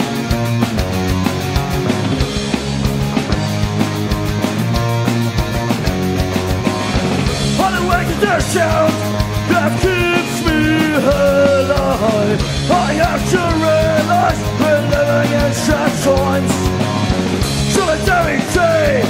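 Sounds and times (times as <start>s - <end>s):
punk band playing: 0.0s - 19.0s.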